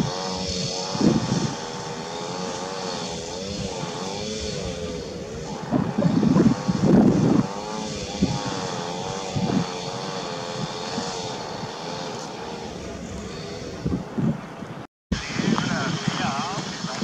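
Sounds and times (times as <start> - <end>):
jet engines at approach power: 0.0 - 17.0
wind rumble on microphone: 0.0 - 17.0.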